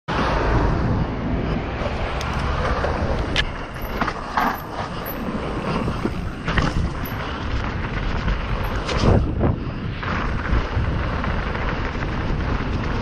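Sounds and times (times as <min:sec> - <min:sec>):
bike rattling: 0:00.1 - 0:13.0
wind buffeting microphone: 0:00.1 - 0:13.0
tyre noise on dirt and leaves: 0:02.2 - 0:13.0.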